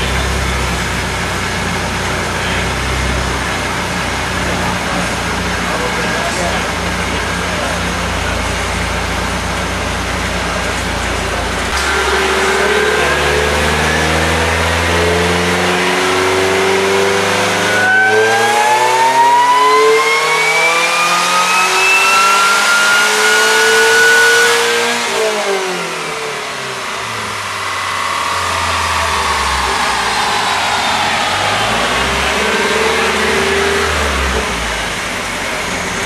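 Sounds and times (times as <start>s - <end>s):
car engine revving: 0.0s - 36.0s
supercharger whine: 0.0s - 36.0s.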